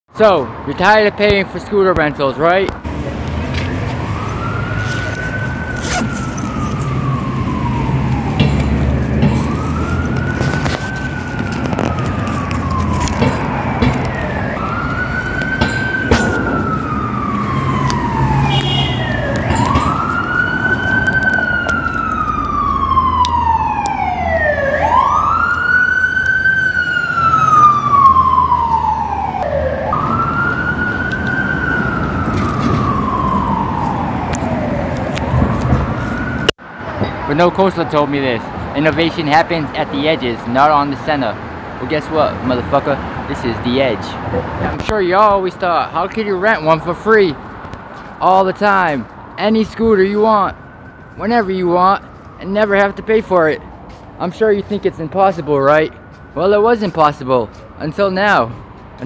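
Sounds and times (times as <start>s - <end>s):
low traffic rumble: 0.1s - 59.0s
emergency siren wailing: 2.8s - 43.7s, 44.3s - 59.0s.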